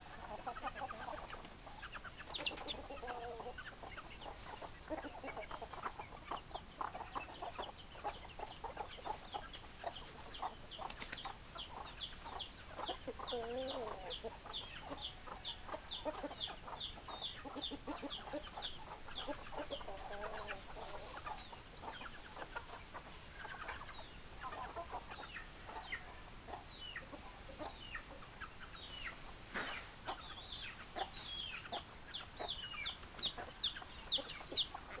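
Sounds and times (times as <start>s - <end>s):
hens clucking: 0.0s - 35.0s.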